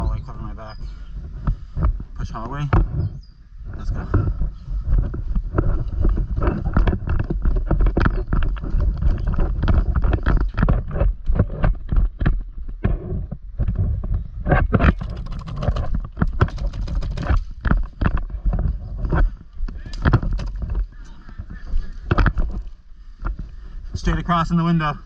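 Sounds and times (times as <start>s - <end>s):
wind against microphone: 0.0s - 25.0s
quick footsteps: 0.4s - 24.9s
gear rattling: 3.8s - 24.5s.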